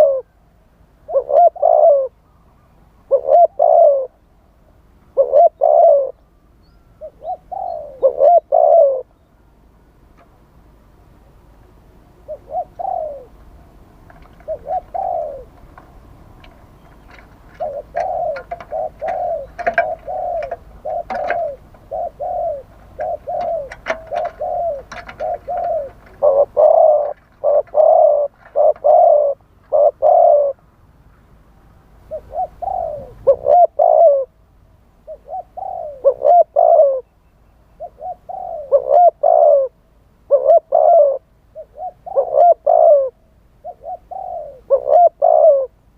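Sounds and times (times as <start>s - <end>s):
dove cooing: 0.0s - 0.4s, 1.0s - 4.2s, 5.1s - 6.2s, 6.8s - 9.2s, 12.1s - 30.7s, 32.0s - 34.4s, 35.0s - 37.1s, 37.7s - 45.8s.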